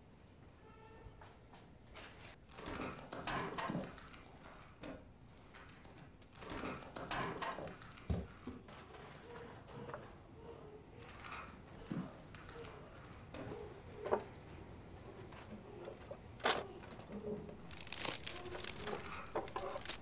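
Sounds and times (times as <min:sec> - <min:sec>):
rustling and scraping of objects: 0:01.2 - 0:20.0.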